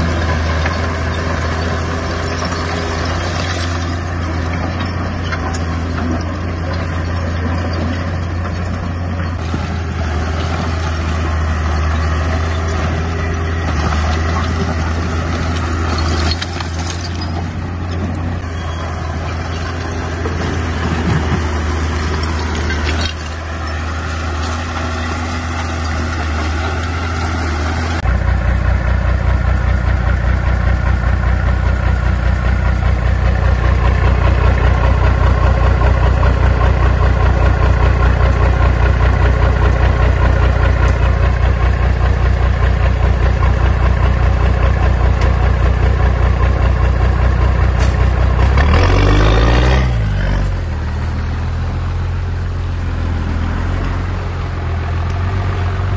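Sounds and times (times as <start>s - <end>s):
diesel engine of heavy machinery: 0.0s - 55.9s.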